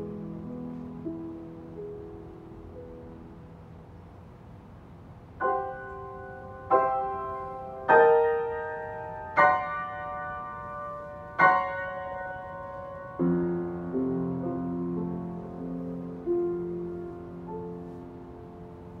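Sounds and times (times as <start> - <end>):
piano chords ringing: 0.0 - 19.0
soft piano sound: 0.0 - 19.0.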